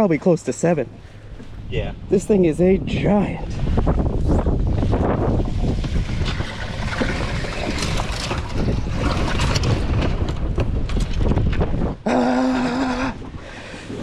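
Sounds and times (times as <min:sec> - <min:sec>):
wind buffeting microphone: 0:00.8 - 0:14.0.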